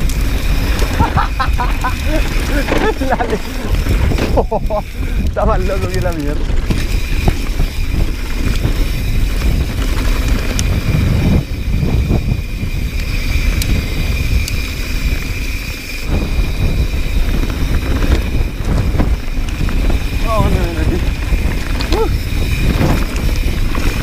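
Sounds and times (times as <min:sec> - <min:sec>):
bike clicks and rattles: 0:00.0 - 0:24.0
tyre noise on dirt trail: 0:00.0 - 0:24.0
wind buffeting microphone: 0:00.0 - 0:24.0.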